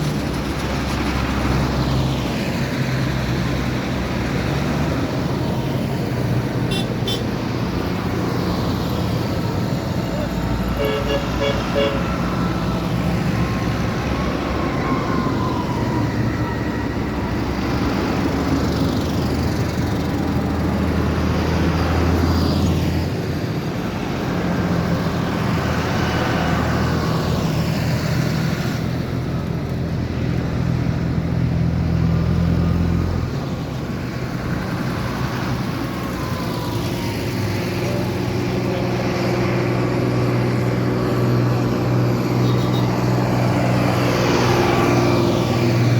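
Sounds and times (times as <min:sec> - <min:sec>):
tractors driving past: 0:00.0 - 0:45.9.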